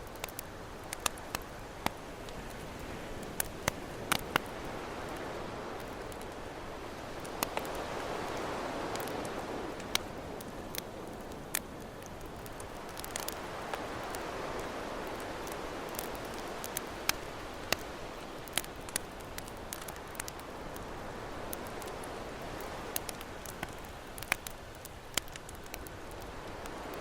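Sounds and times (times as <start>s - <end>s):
ocean waves: 0.0s - 25.4s
campfire crackling and popping: 0.0s - 27.0s.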